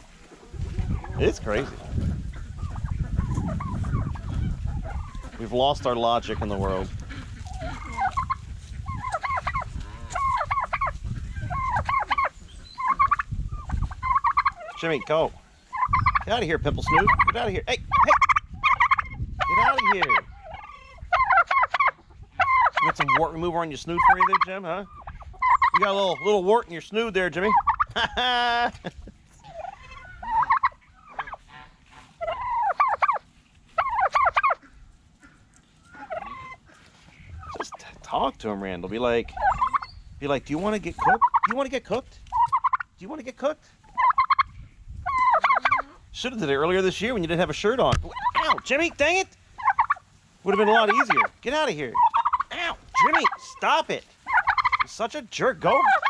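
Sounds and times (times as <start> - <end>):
turkeys gobbling: 0.0 - 56.0.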